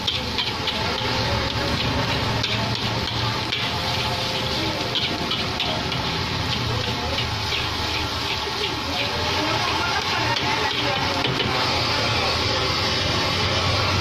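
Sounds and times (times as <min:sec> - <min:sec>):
metal spatula scraping a wok: 0:00.0 - 0:14.0
rice sizzling in a wok: 0:00.0 - 0:14.0.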